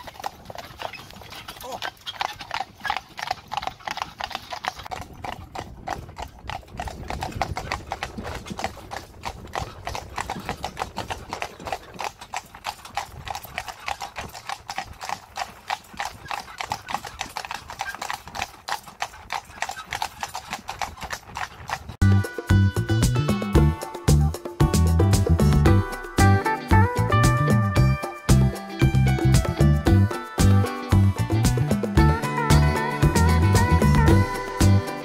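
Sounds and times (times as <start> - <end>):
horse hooves clip-clopping on pavement: 0.0 - 35.0.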